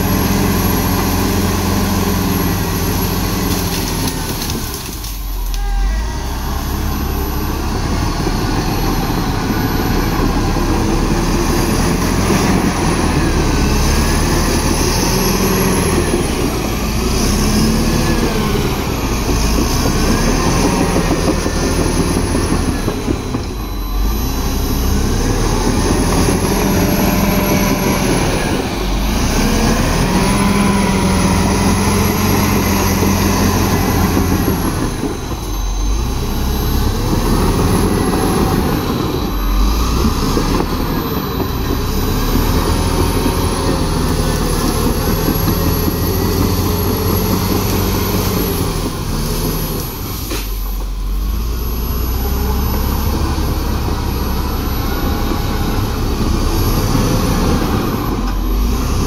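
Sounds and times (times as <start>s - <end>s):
bulldozer diesel engine working: 0.0s - 59.0s.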